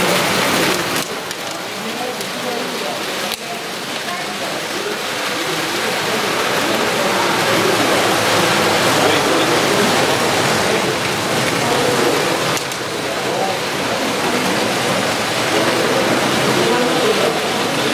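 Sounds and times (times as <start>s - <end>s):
murmur of voices: 0.0s - 17.9s.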